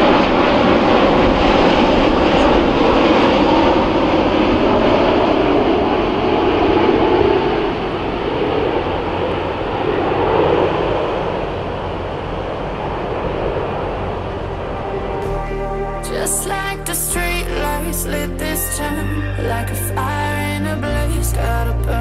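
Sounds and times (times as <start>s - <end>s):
jet airliner roar: 0.0s - 22.0s.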